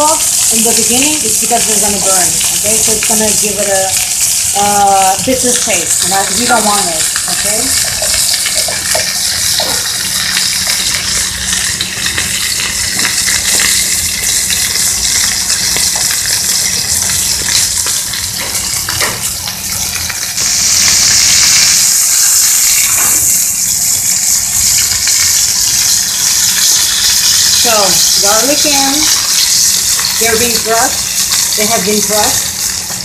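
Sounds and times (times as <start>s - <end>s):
steak sizzling in a skillet: 0.0s - 33.0s.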